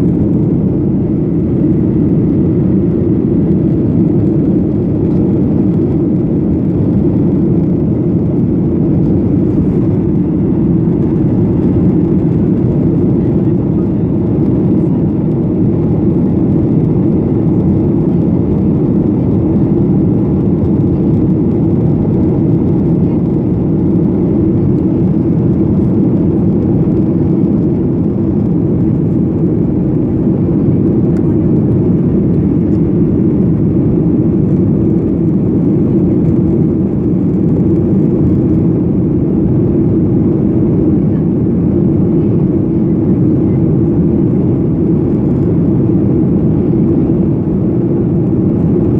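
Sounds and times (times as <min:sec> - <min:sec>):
airliner engines rumbling: 0:00.0 - 0:48.9.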